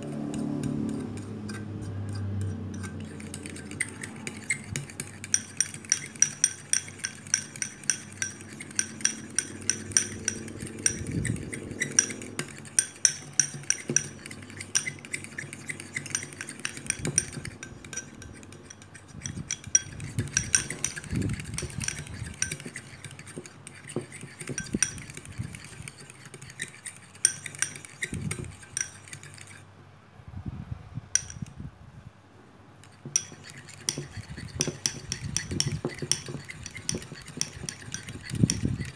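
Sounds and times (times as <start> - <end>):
metal fork clinking against bowl: 0.3 - 29.6, 32.8 - 38.9.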